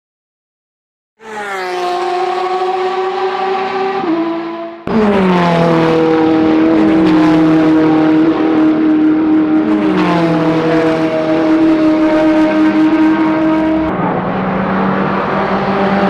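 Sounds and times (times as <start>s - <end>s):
race car engines at high revs: 1.2s - 16.0s.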